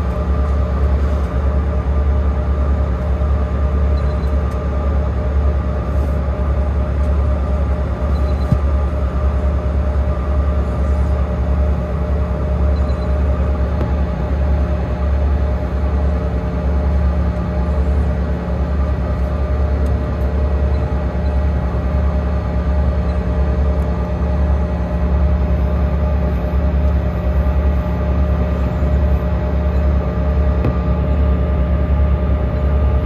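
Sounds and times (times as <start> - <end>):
airliner cabin drone: 0.0 - 33.0.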